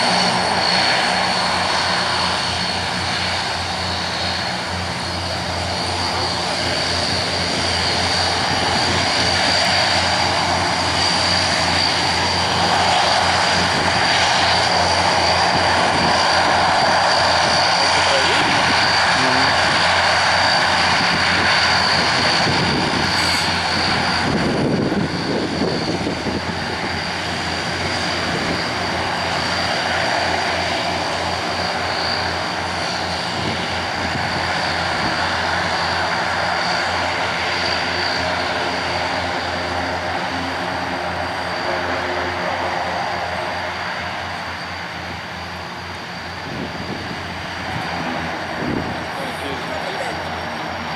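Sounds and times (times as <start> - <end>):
turboprop engines running: 0.0 - 50.9.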